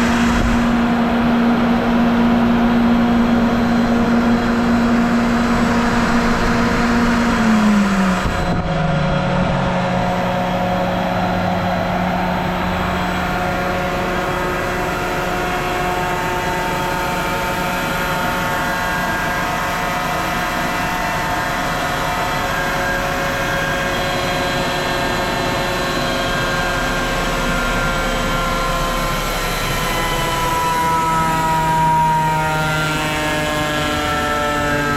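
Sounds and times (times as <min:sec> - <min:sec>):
air compressor humming and whining: 0:00.0 - 0:34.9.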